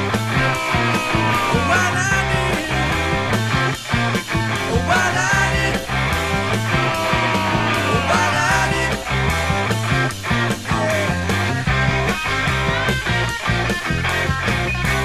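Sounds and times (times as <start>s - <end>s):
rock band music from vinyl: 0.0s - 15.0s.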